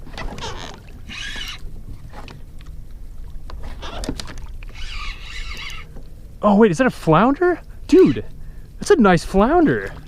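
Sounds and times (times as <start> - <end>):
water sounds: 0.0 - 10.0.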